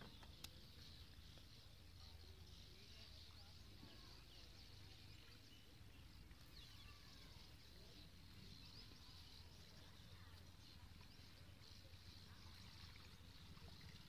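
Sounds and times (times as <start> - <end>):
soft high-pitched chirping: 0.0 - 14.0.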